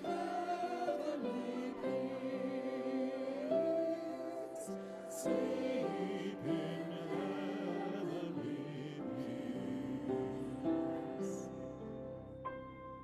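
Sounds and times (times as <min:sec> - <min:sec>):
group singing a carol: 0:00.0 - 0:12.0
piano accompaniment: 0:00.0 - 0:13.0.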